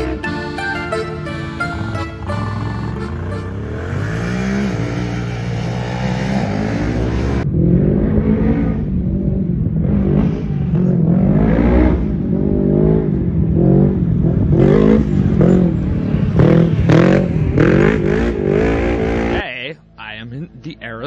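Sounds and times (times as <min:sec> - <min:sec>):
racing engines revving: 0:00.0 - 0:19.5.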